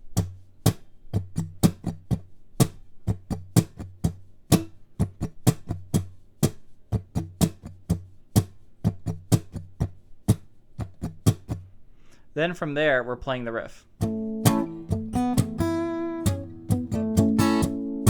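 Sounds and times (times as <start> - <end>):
palm-muted guitar strumming: 0.2 - 11.6, 13.9 - 18.0.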